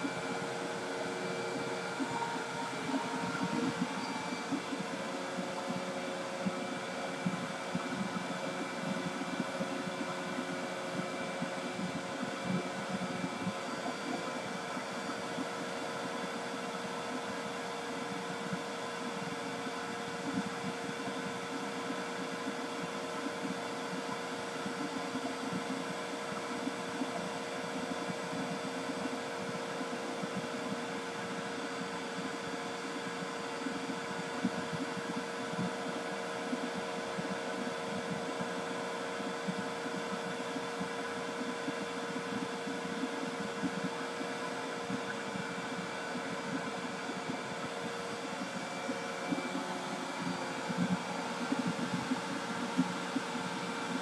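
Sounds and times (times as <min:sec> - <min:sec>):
machine drone with hum: 0:00.0 - 0:54.0.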